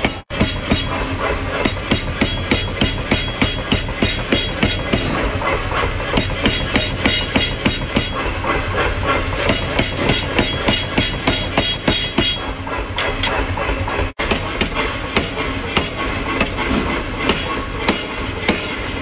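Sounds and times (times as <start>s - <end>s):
power hammer pounding steel: 0.0s - 19.0s.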